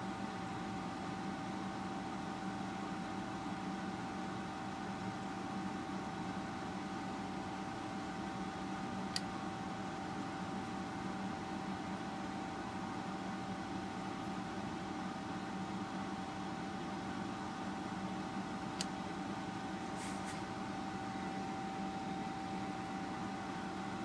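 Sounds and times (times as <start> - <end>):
constant high whine: 0.0 - 24.0
electrical hum and hiss: 0.0 - 24.0.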